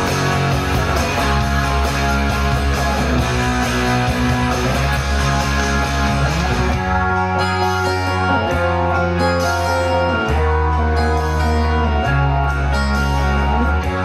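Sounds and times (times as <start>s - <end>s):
bass line: 0.0s - 14.0s
drums: 0.0s - 14.0s
electric guitar playing rock: 0.0s - 14.0s.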